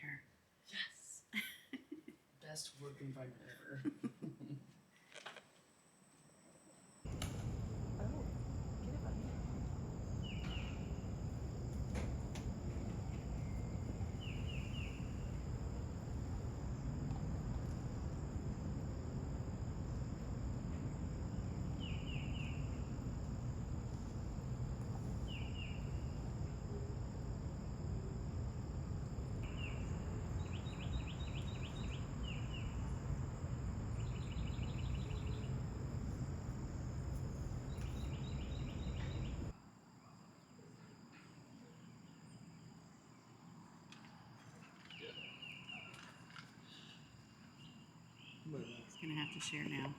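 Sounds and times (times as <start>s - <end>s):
insects buzzing: 6.2s - 40.2s, 41.1s - 49.9s.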